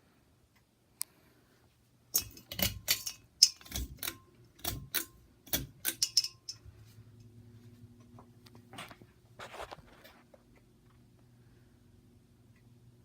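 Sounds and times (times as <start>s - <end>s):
ceiling fan motor hum: 0.1s - 13.0s.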